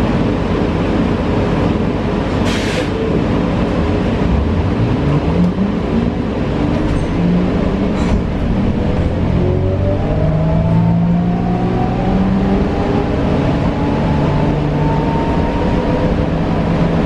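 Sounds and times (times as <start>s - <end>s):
bus road and body rumble: 0.0s - 17.0s.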